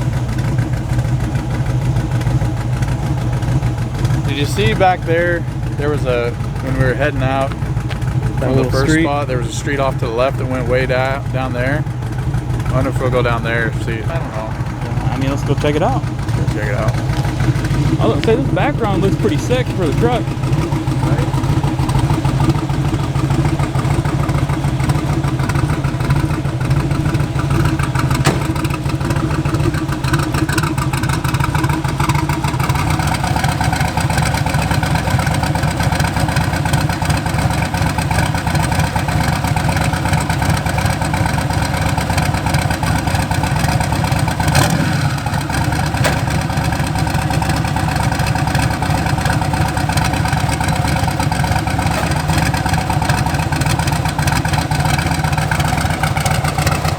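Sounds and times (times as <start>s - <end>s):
truck engine drone: 0.0s - 56.9s.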